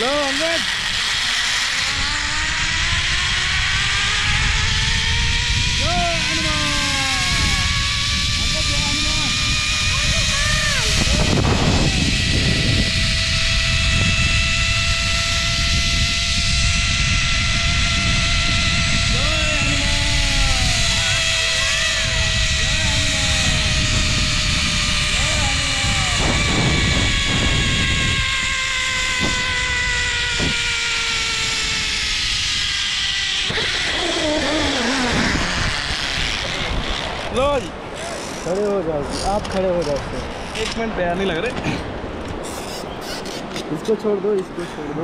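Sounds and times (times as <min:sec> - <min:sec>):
zipline pulleys whining on cable: 0:00.0 - 0:44.0
wind rushing on microphone: 0:00.0 - 0:45.0.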